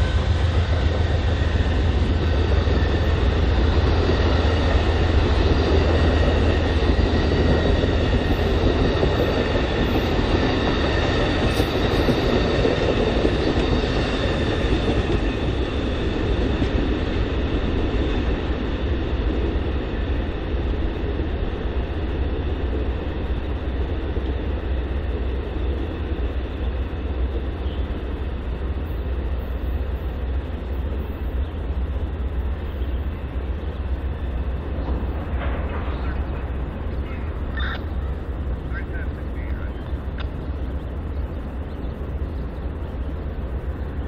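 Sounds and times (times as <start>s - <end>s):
train rolling on rails: 0.0s - 44.0s.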